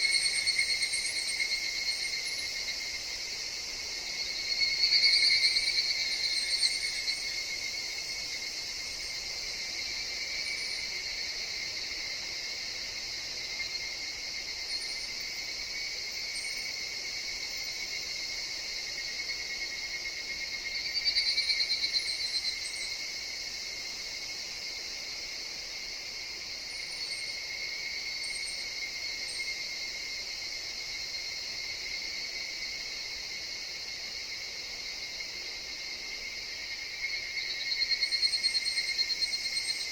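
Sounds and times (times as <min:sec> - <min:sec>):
cicadas trilling: 0:00.0 - 0:39.9
pulsing cicada calls: 0:00.0 - 0:39.9.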